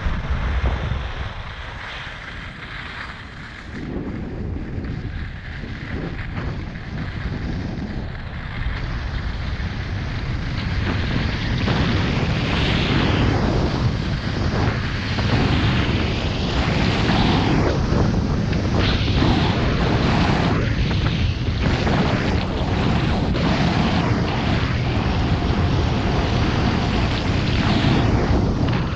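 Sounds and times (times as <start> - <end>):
wind buffeting microphone: 0.0 - 28.9
skis hissing over snow: 0.2 - 28.9.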